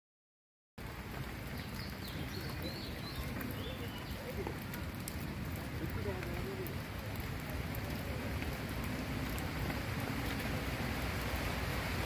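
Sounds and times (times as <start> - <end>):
rushing outdoor noise: 0.8 - 12.0.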